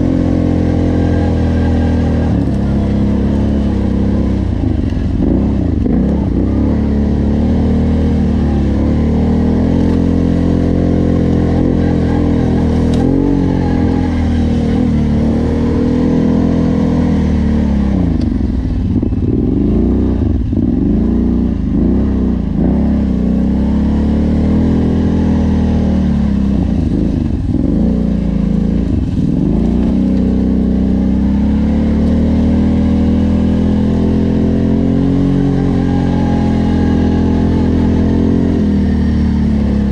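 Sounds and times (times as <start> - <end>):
off-road vehicle engine: 0.0 - 39.9.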